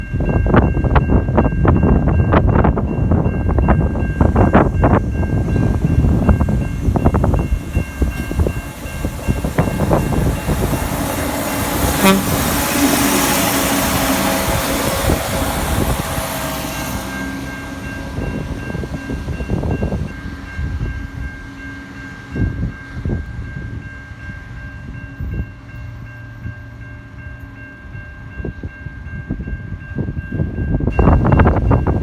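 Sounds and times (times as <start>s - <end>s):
rail work trucks running: 0.0s - 32.0s.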